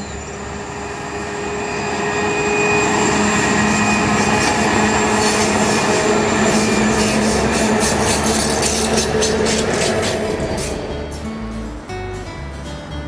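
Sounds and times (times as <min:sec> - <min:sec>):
diesel locomotives droning: 0:00.0 - 0:12.7.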